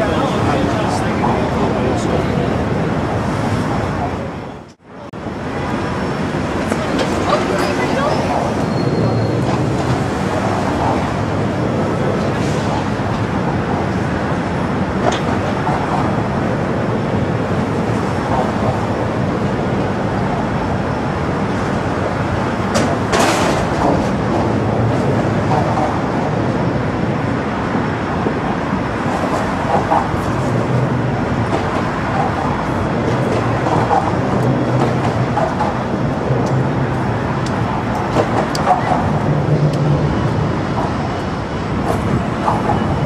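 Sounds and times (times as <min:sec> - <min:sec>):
rumbling city noise: 0:00.0 - 0:43.0.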